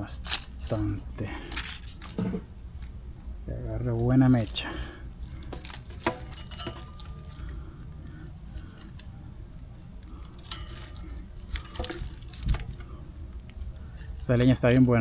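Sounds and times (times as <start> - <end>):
twigs and firewood handled: 0.0 - 15.0
twigs snapping and knocking: 0.0 - 15.0.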